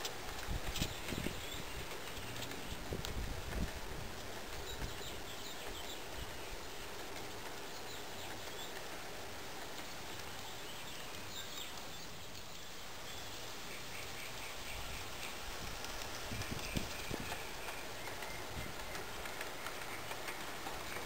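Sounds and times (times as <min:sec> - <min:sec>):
outdoor background noise: 0:00.0 - 0:21.0
small birds chirping: 0:00.0 - 0:21.0.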